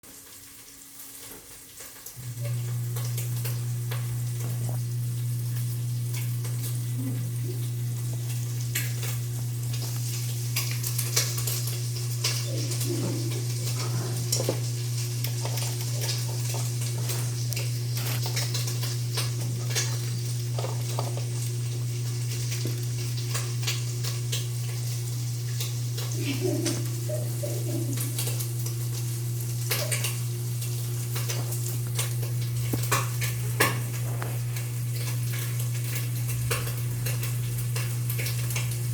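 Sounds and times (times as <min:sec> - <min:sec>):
fire crackling and popping: 0:02.1 - 0:26.2, 0:27.9 - 0:38.9
steady low hum: 0:02.2 - 0:38.9.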